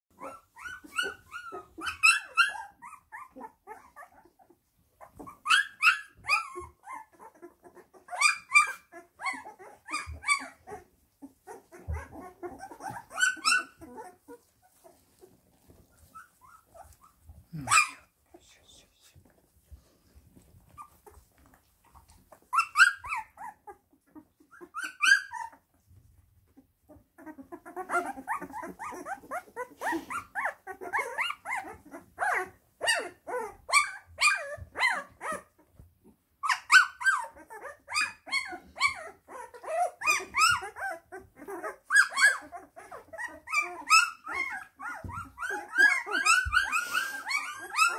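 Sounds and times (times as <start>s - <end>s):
puppies squeaking and whining: 0.1s - 18.8s, 19.5s - 47.9s.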